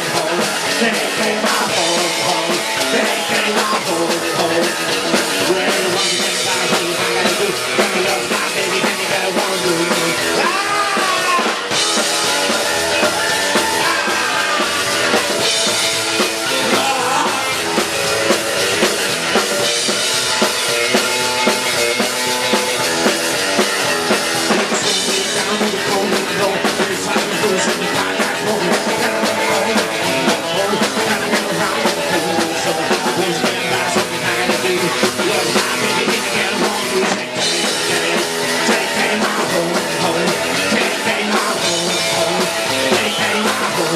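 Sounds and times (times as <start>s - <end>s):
drum kit beat: 0.0s - 43.9s
rock band playing: 0.0s - 43.9s.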